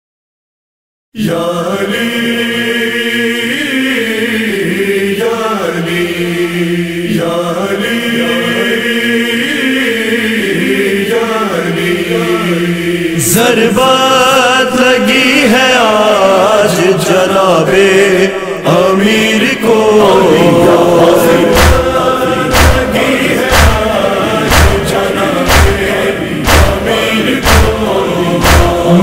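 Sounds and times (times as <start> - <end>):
male voices chanting: 1.2 - 29.0.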